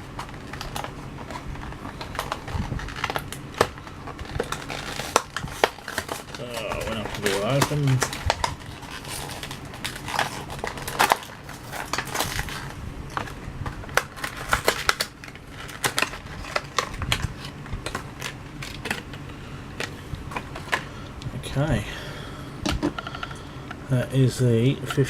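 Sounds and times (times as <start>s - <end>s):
plastic packaging crackling and tearing: 0.0s - 21.5s.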